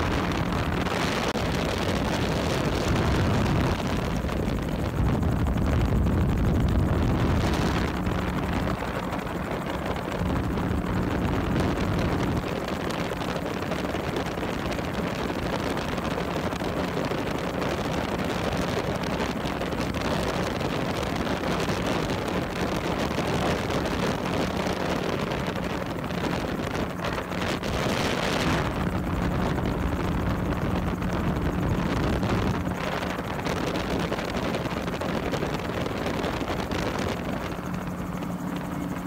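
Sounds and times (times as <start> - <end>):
aircraft engine humming: 0.0 - 39.0
wind rushing on microphone: 0.0 - 39.0.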